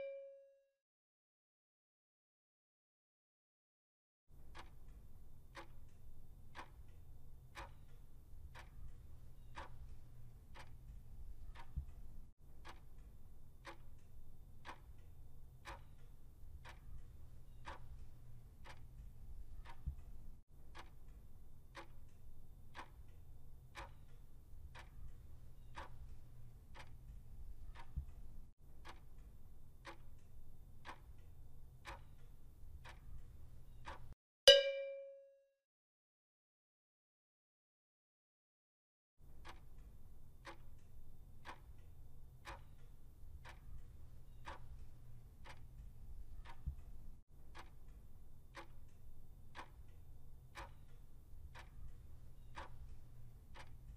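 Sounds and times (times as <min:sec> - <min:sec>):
clock ticking: 0:04.4 - 0:34.2, 0:39.4 - 0:53.9.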